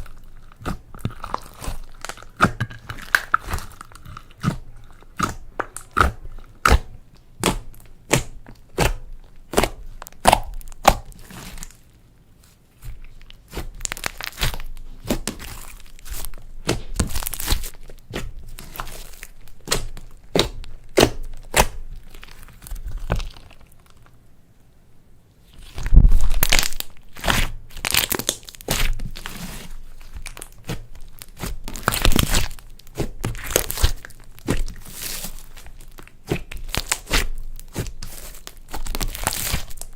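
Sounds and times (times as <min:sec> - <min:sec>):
hands squishing slime: 0:00.0 - 0:24.1, 0:25.5 - 0:39.9.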